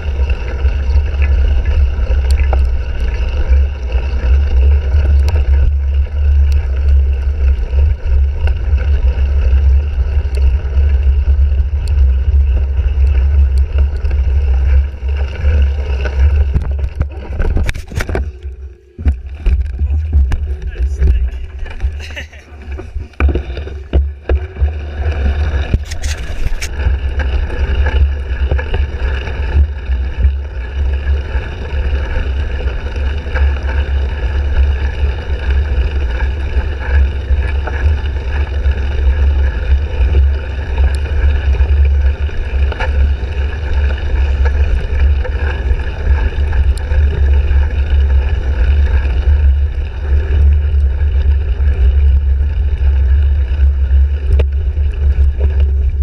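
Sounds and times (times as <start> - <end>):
wind and bike ride rumble: 0.0 - 56.0.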